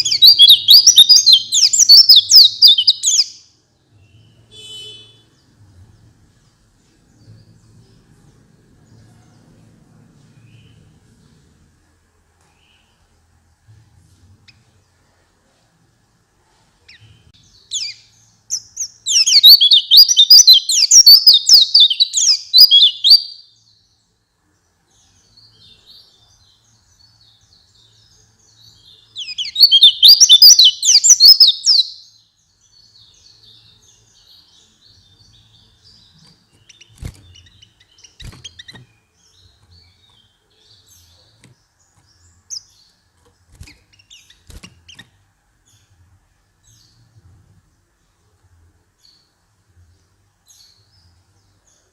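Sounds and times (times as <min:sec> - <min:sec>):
bird twittering song: 0:00.0 - 0:09.6, 0:16.9 - 0:48.2, 0:48.9 - 0:51.9
soft bird chirps: 0:00.0 - 0:13.2, 0:14.0 - 0:51.9.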